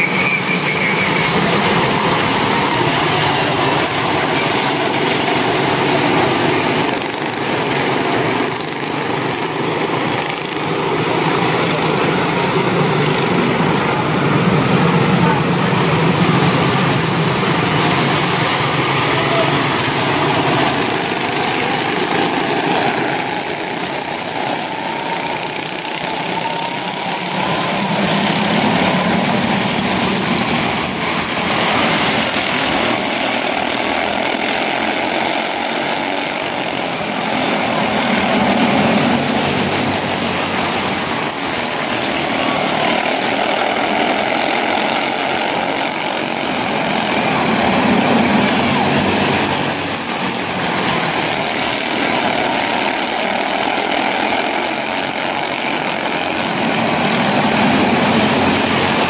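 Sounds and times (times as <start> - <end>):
small race car engines buzzing: 0.0 - 59.0.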